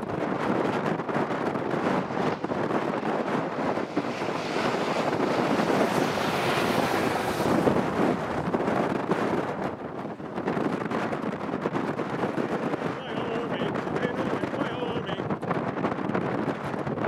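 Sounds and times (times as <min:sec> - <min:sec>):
storm wind on microphone: 0:00.0 - 0:17.0.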